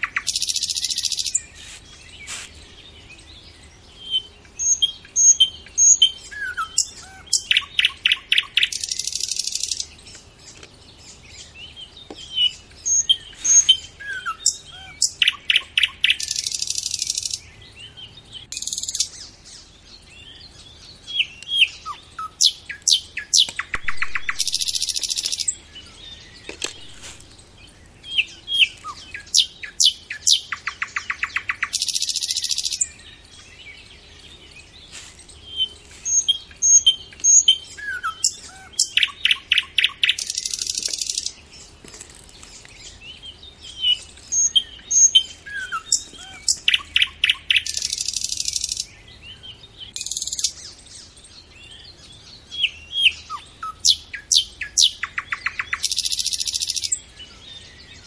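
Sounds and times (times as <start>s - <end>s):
bird trill with buzzy hiss: 0.0s - 57.4s
birds chirping and singing: 0.0s - 58.0s.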